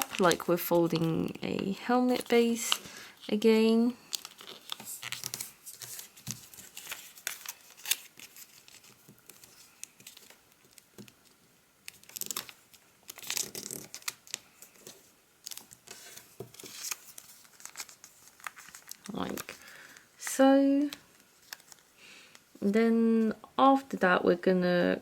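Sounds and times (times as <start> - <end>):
paper crinkling and rustling: 0.0 - 20.1, 20.8 - 22.5.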